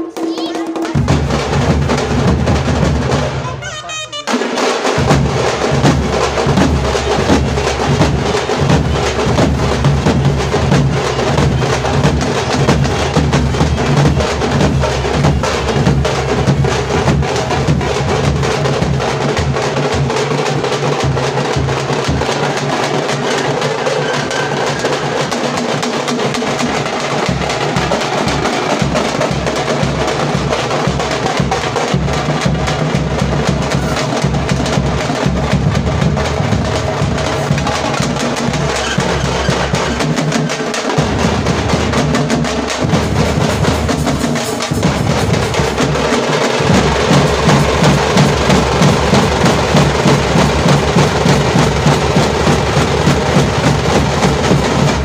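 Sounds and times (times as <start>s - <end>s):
frame drum beaten with sticks: 0.0s - 55.0s.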